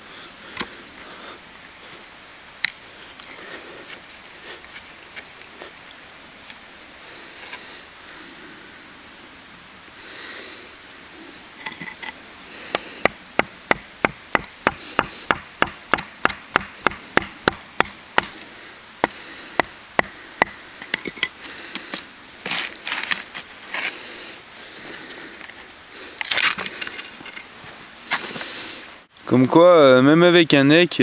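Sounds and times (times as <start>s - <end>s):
wood crackling and rustling: 0.1s - 29.6s.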